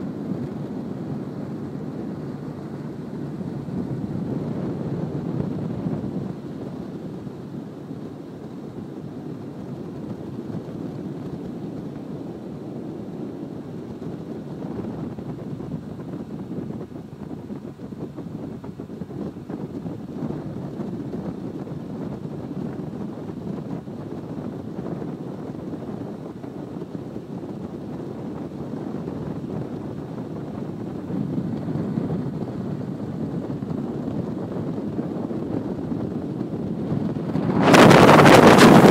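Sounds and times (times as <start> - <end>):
boat engine and wind rush: 0.0 - 38.9.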